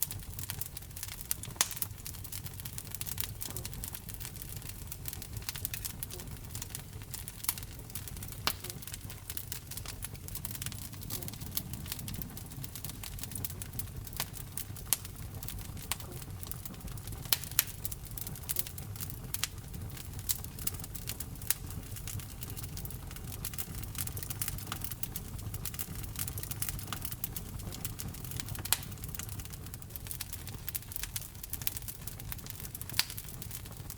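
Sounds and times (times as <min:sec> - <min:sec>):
low rumble of flames: 0:00.0 - 0:33.9
wood fire crackling and popping: 0:00.0 - 0:33.9.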